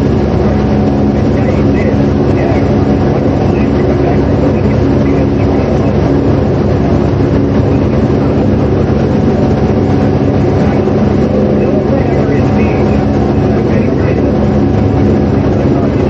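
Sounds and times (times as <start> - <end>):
machine droning: 0.0 - 16.0.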